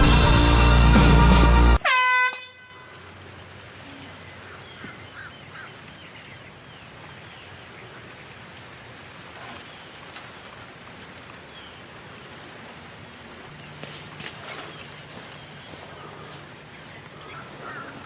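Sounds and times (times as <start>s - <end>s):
outdoor background hiss: 1.8s - 18.0s.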